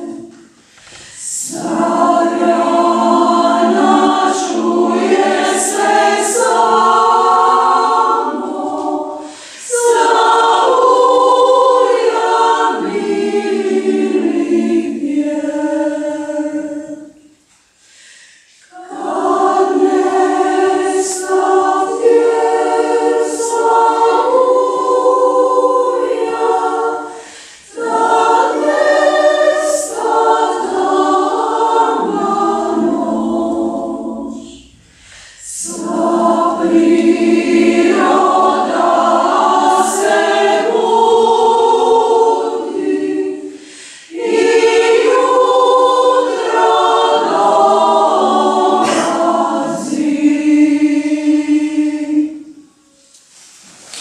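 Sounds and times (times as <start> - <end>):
women's choir singing: 0.0 - 17.5, 18.5 - 53.2.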